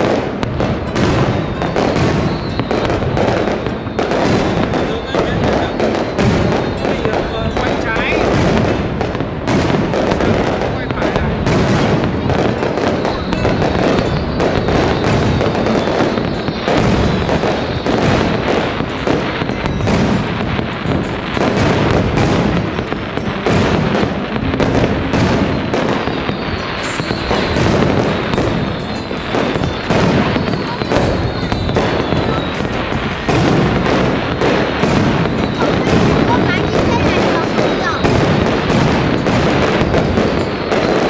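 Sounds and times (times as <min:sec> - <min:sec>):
fireworks bangs and crackling: 0:00.0 - 0:41.0
fireworks falling whistles: 0:00.0 - 0:41.0.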